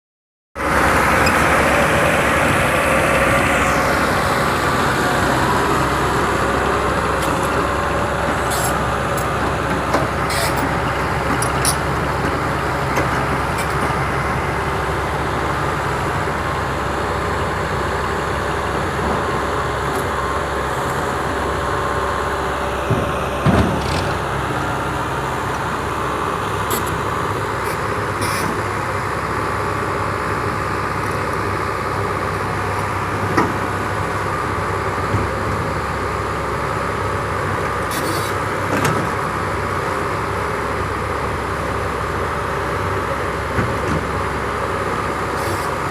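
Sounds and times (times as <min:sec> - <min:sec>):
excavator diesel engine running: 0:00.6 - 0:45.9.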